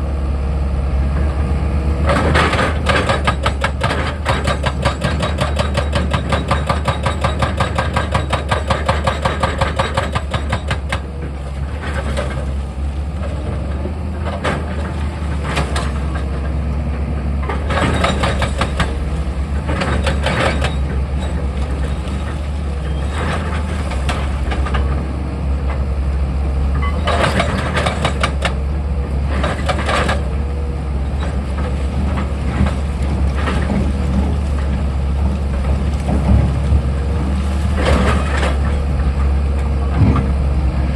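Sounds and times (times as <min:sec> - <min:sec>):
excavator diesel engine humming: 0:00.0 - 0:40.9.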